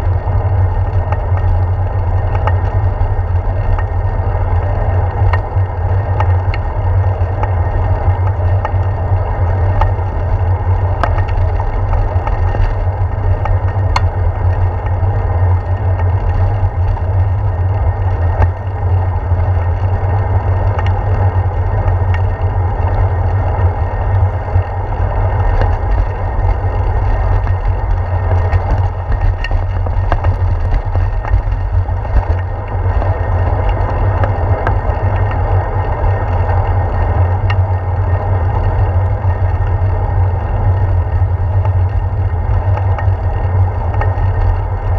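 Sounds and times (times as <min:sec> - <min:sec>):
bike clicks and rattles: 0:00.0 - 0:44.9
wind and road rumble: 0:00.0 - 0:44.9.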